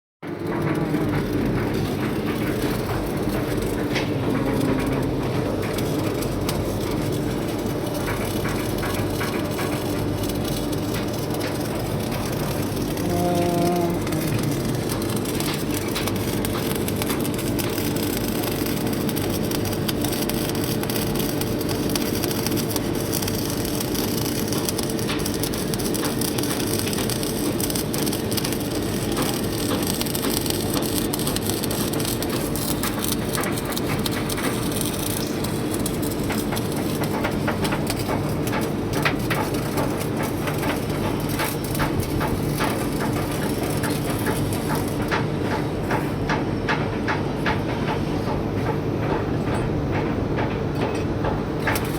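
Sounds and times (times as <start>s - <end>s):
welding arc crackling: 0.2s - 47.6s, 51.6s - 51.9s
continuous hum: 0.2s - 51.9s.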